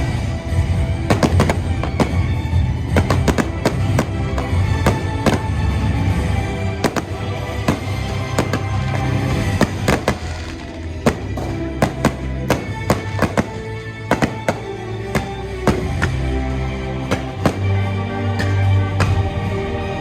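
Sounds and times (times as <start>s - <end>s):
loud recorded show music: 0.0s - 20.0s
fireworks bangs: 0.7s - 19.4s.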